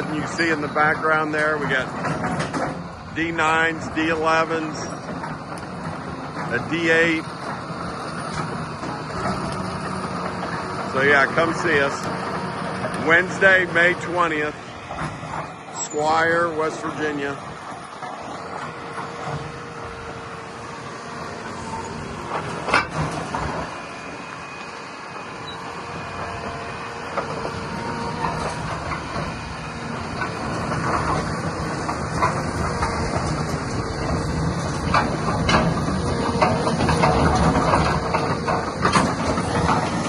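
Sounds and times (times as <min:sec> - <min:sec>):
metallic clanks and knocks: 0:00.0 - 0:23.9, 0:26.0 - 0:40.0
excavator diesel engine running: 0:00.0 - 0:40.0.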